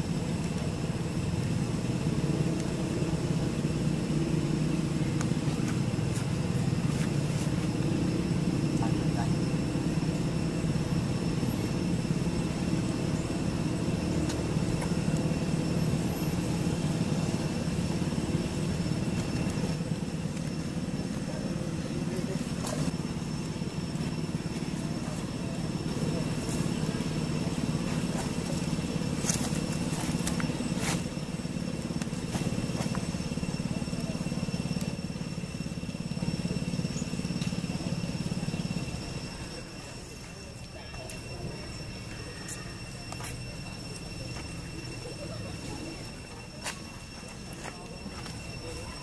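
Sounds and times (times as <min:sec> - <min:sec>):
low motor rumble: 0:00.0 - 0:49.0
small engine idling: 0:00.0 - 0:49.0
thin high whine: 0:00.0 - 0:49.0
faint high-pitched tones: 0:02.8 - 0:49.0.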